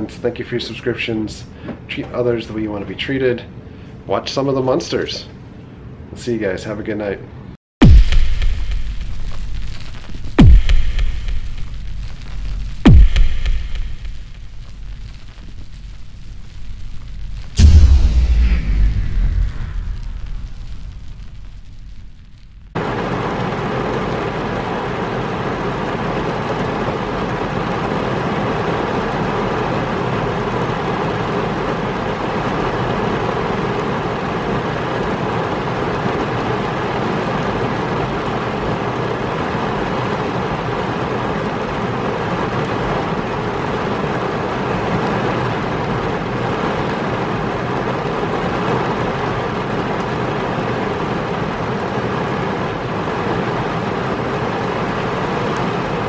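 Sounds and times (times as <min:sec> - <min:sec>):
heavy rain on car roof: 0:07.8 - 0:18.3, 0:19.2 - 0:56.0.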